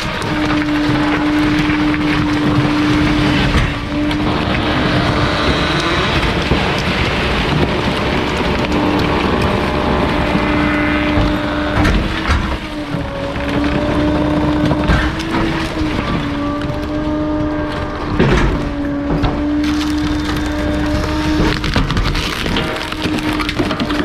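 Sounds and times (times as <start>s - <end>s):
hydraulic compactor humming: 0.0s - 24.0s
load crunching and cracking: 0.0s - 24.0s.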